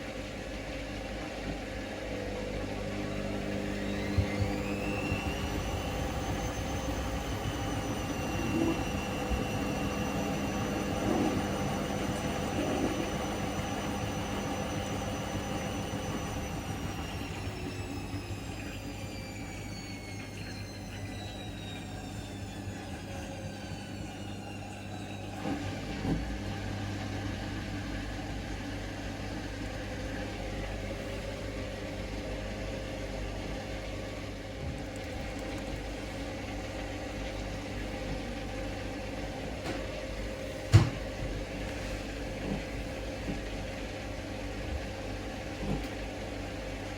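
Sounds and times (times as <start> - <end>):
washing machine motor whine: 0.0 - 46.9.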